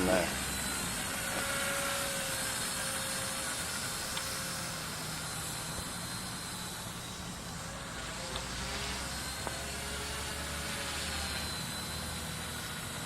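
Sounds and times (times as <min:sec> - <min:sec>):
small helicopter rotors whining: 0:00.0 - 0:13.0.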